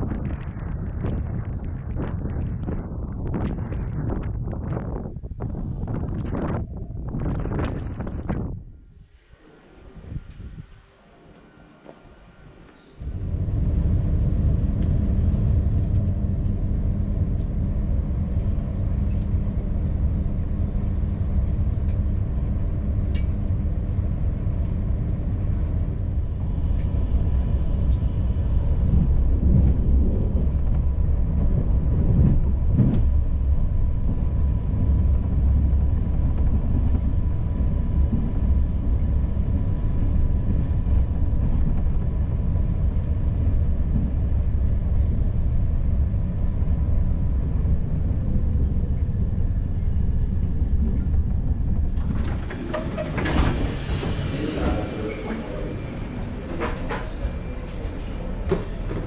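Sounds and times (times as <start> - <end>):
train wheels rumbling on rail: 0.0 - 8.6, 13.0 - 59.0.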